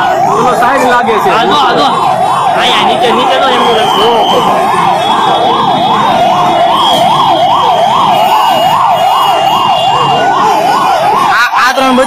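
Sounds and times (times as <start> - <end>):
fire engine siren yelping: 0.0 - 12.0
large crowd noise: 0.0 - 12.0.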